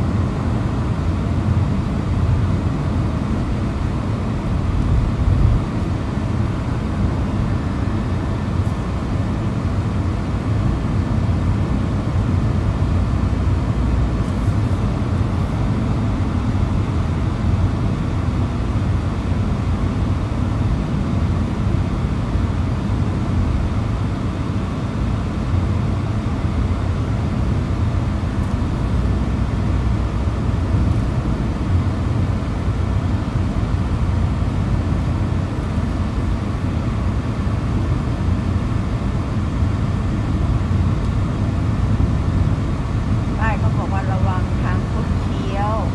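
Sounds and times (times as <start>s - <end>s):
road noise: 0.0s - 45.9s
vehicle engine rumble: 0.0s - 45.9s.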